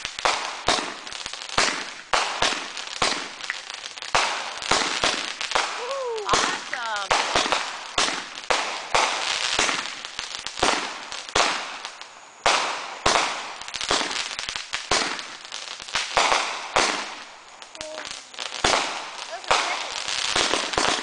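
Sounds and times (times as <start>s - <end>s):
fireworks bangs with hiss: 0.0s - 21.0s.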